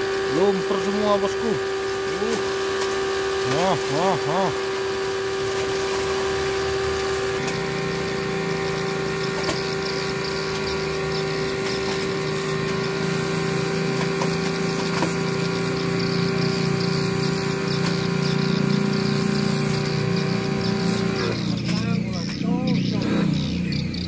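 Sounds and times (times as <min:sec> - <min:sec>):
machine whining hum: 0:00.0 - 0:24.0.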